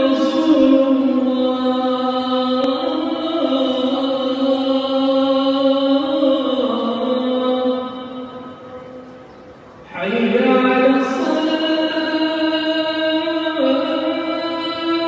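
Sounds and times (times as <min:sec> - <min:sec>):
man chanting devotional recitation: 0:00.0 - 0:08.8, 0:09.9 - 0:15.0.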